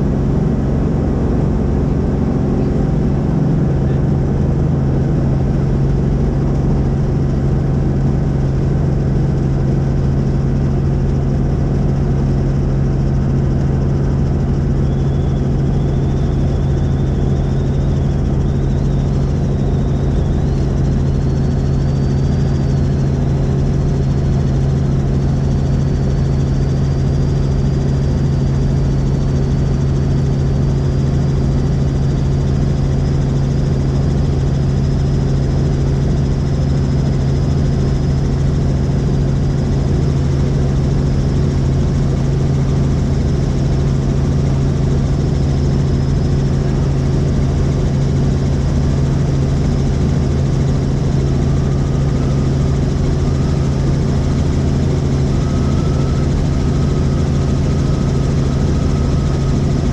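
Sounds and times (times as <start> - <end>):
faint high whine: 0.0 - 59.9
helicopter engine and rotor drone: 0.0 - 59.9.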